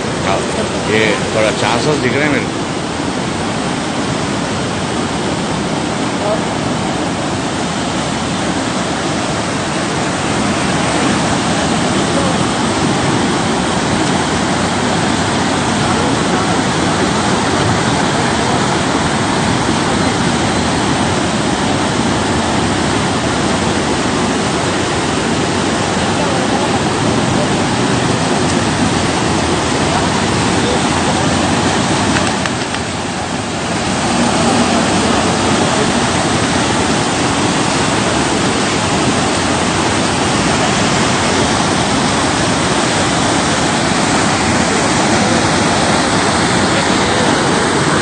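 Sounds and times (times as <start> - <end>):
rushing churning water: 0.0 - 48.0.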